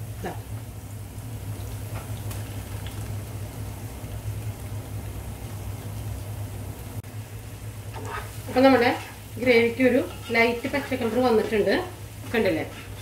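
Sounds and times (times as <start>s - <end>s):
masala sizzling and bubbling: 0.0s - 13.0s
steady low hum: 0.0s - 13.0s.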